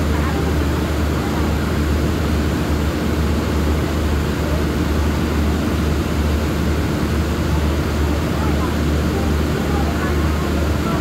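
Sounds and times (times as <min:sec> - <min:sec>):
diesel train idling: 0:00.0 - 0:11.0.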